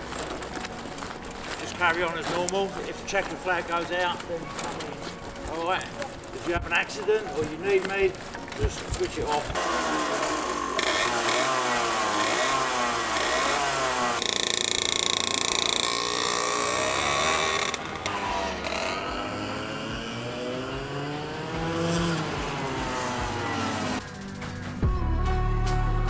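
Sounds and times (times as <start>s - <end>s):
kart engine revving: 0.0s - 24.3s
distant kart engine: 0.0s - 24.8s.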